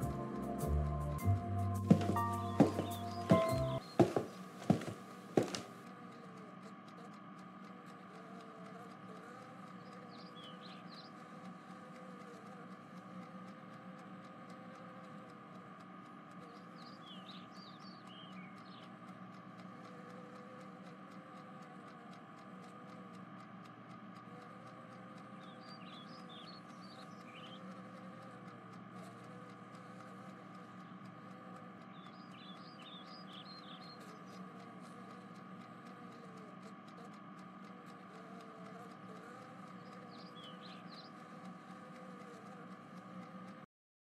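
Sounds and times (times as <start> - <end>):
faint background hum: 0.0 - 43.7.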